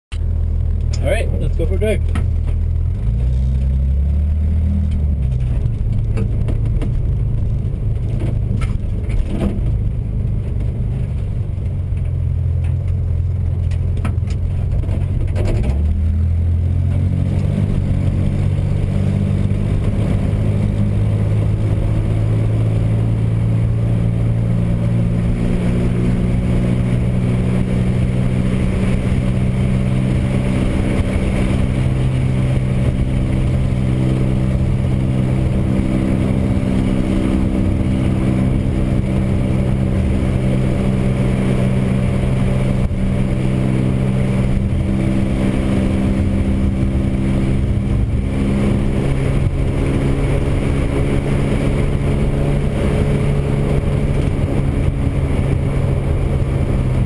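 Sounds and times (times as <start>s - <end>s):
engine running from inside cab: 0.1s - 57.0s.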